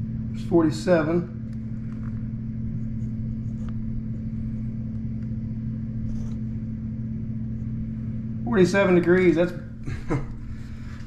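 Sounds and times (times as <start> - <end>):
air blowing from vent: 0.0 - 11.0
low hum: 0.0 - 11.0.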